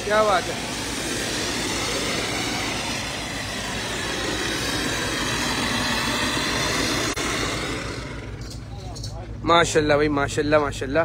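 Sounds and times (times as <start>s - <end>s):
fountain firework hissing: 0.0s - 8.8s.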